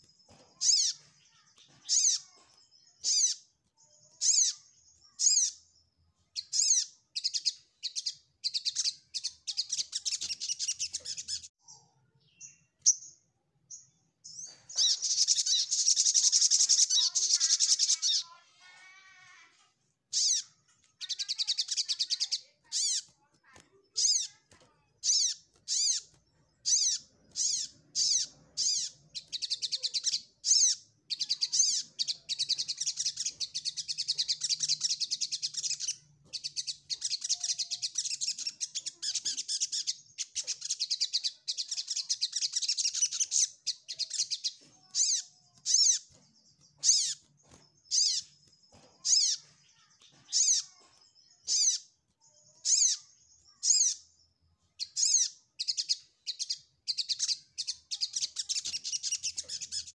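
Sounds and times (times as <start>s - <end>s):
sunbird chirping and twittering: 0.0s - 59.9s.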